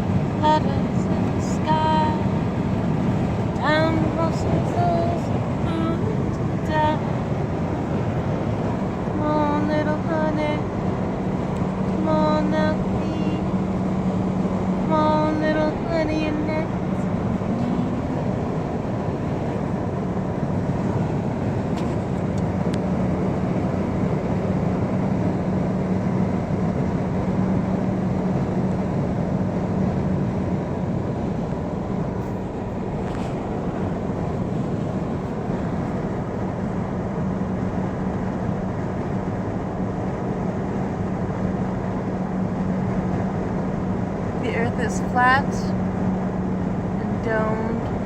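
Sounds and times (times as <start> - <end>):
vehicle noise low hum: 0.0 - 48.0.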